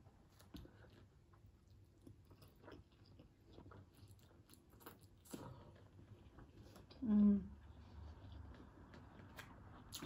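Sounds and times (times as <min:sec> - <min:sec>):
faint chewing: 0:00.1 - 0:10.0.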